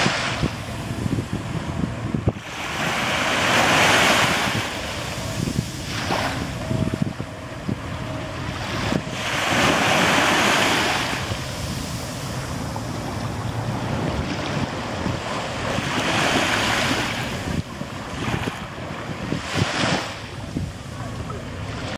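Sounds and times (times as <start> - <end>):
small waves washing on sand: 0.0 - 1.3, 2.3 - 6.7, 8.6 - 21.9
wind rumble on microphone: 0.0 - 21.9.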